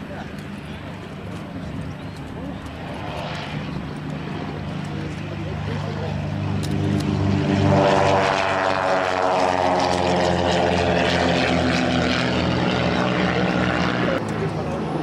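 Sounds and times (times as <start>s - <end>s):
propeller aircraft flying past: 0.0s - 15.0s.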